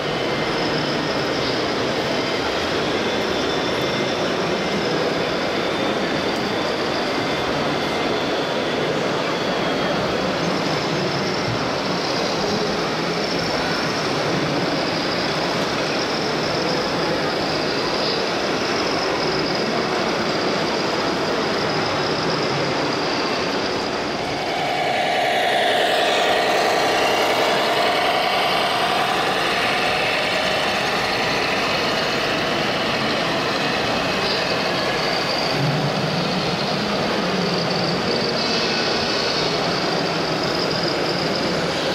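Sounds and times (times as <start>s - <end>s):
faint high whine: 0.0s - 41.9s
model trucks and machines running: 0.0s - 41.9s.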